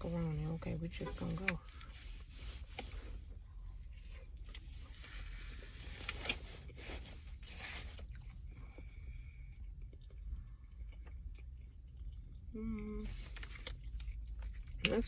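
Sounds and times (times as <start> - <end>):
person chewing food: 1.7 - 15.0.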